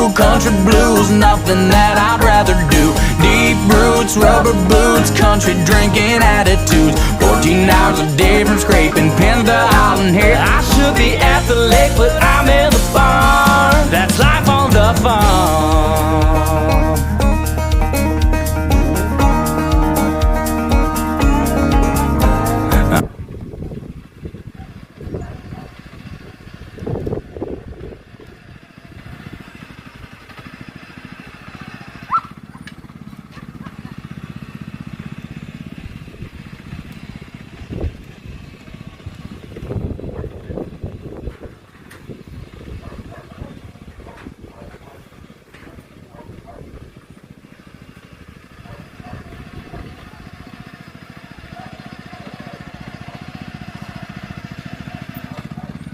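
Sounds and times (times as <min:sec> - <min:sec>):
engine puttering: 0:00.0 - 0:55.9.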